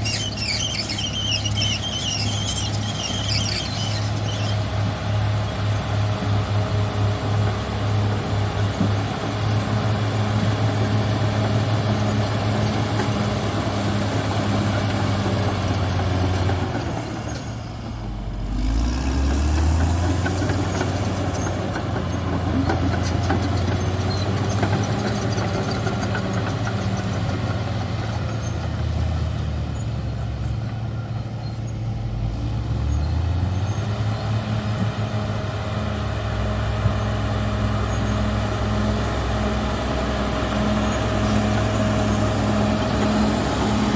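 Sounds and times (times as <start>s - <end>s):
bulldozer diesel engine under load: 0.0s - 43.9s.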